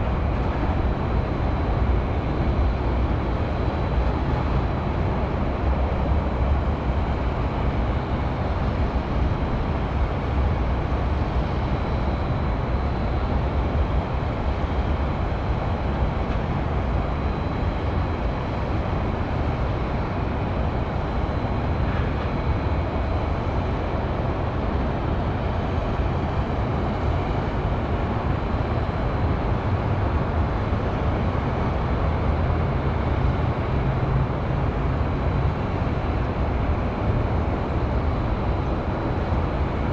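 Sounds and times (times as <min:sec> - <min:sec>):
highway traffic hum: 0:00.0 - 0:39.9.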